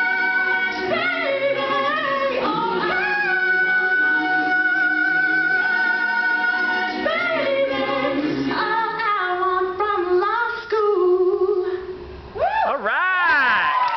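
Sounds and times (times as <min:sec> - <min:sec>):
a cappella group singing in harmony: 0:00.0 - 0:11.9.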